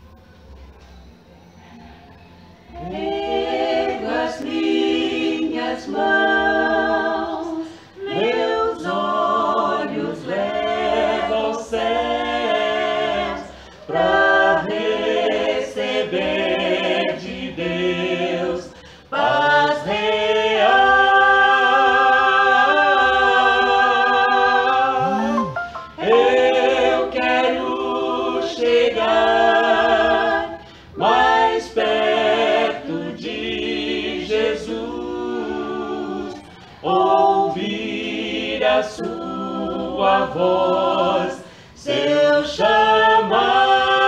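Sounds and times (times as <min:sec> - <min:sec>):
people singing a cappella hymn: 0:02.6 - 0:44.0.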